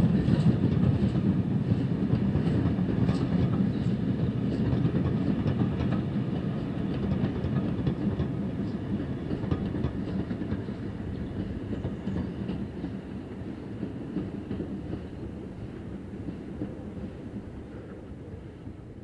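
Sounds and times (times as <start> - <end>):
train rumbling: 0.0 - 19.0
train wheels clicking on rails: 0.0 - 19.0.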